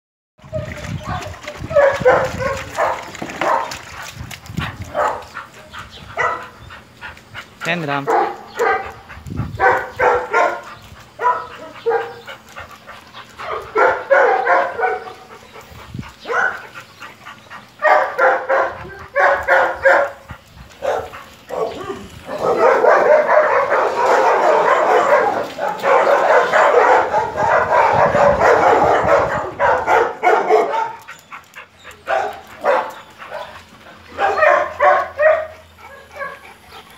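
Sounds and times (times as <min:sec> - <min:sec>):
dogs barking: 0:00.5 - 0:36.9.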